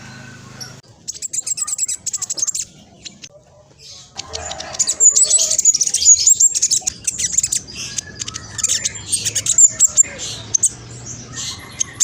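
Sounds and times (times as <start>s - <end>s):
bird singing fast high chirps: 0.0s - 12.0s.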